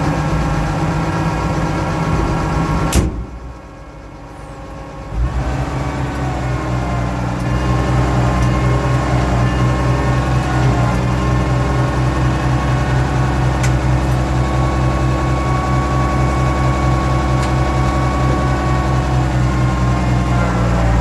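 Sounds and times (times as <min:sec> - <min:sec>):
tractor engine running: 0:00.0 - 0:21.0
hydraulic whine: 0:01.4 - 0:21.0.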